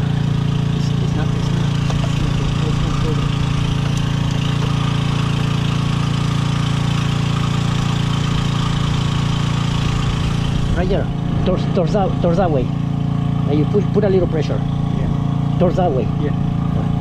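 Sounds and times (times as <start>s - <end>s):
machine humming steadily: 0.0s - 17.0s.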